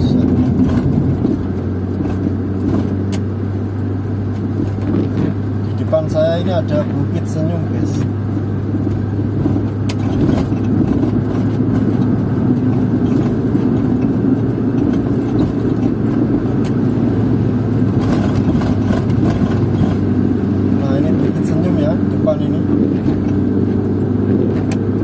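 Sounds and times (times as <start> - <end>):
car engine hum: 0.0 - 25.0
tyre and road roar: 0.0 - 25.0.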